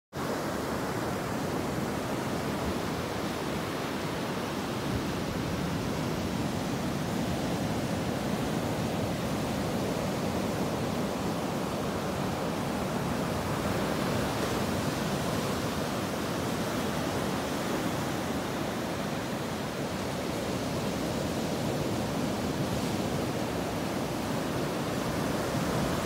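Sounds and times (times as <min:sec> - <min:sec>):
small waves washing up beach: 0:00.2 - 0:26.0.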